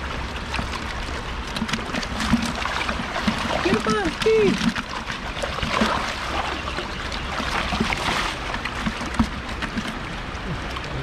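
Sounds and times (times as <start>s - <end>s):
creek water sloshing and trickling: 0.0s - 11.0s.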